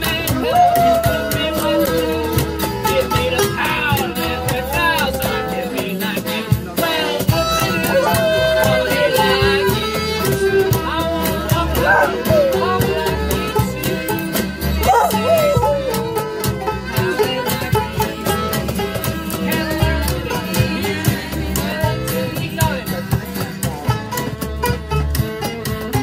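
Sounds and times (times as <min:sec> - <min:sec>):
band playing music: 0:00.0 - 0:26.0.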